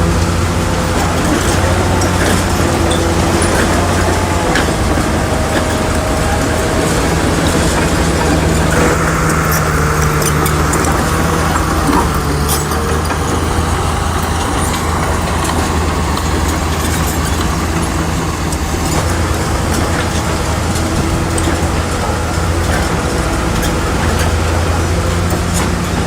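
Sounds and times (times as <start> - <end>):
high-pitched whine: 0.0 - 23.0
bulldozer diesel engine running: 0.0 - 26.0.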